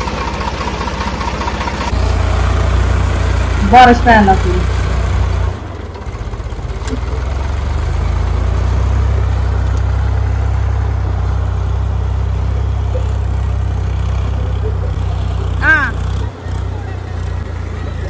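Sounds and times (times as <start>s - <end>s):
tractor diesel engine: 0.0s - 18.0s.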